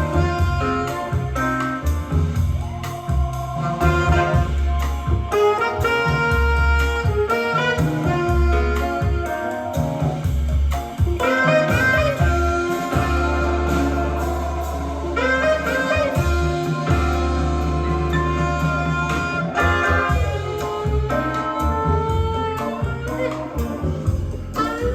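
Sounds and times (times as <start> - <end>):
instrumental jazz with saxophone: 0.0 - 24.9.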